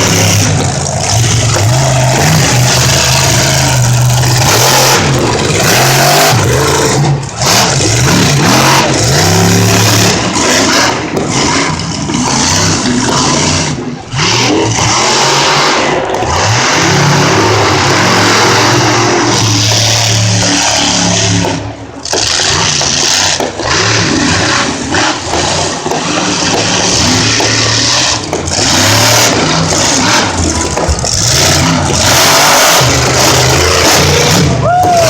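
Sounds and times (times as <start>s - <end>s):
monster truck engine revving: 0.0s - 35.0s.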